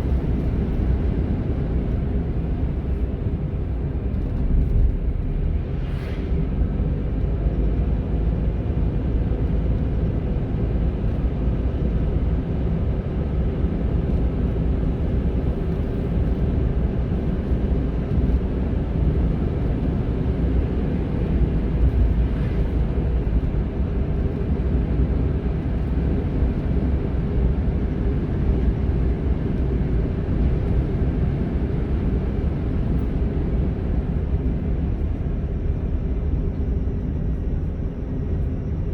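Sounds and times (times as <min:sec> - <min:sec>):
car engine rumble: 0:00.0 - 0:38.9
road noise: 0:00.0 - 0:38.9.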